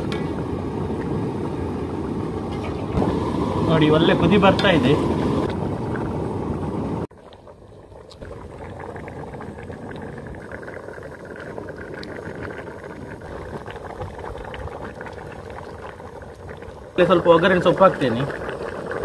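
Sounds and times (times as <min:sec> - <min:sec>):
curry bubbling and popping: 0:00.0 - 0:19.0
low rumbling hiss: 0:00.0 - 0:19.0.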